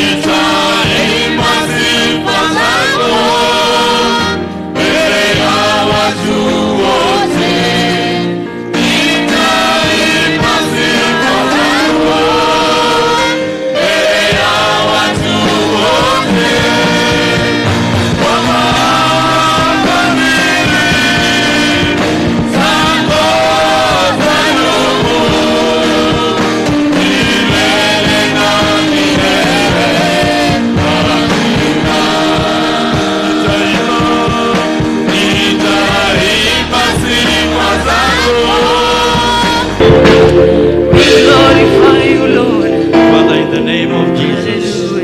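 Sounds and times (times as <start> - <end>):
gospel singing with instrumental backing: 0.0 - 45.0.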